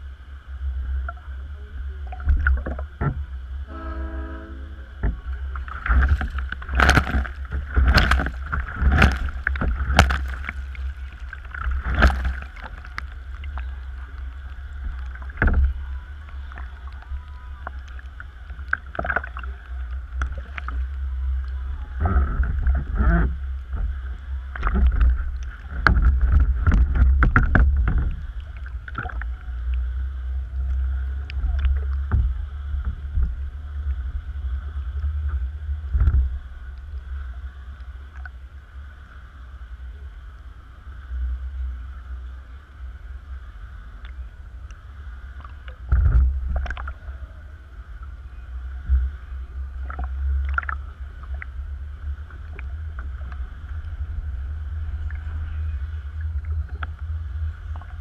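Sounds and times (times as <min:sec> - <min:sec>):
water splashing against kayak: 0:00.0 - 0:58.0
wind on microphone: 0:00.0 - 0:58.0.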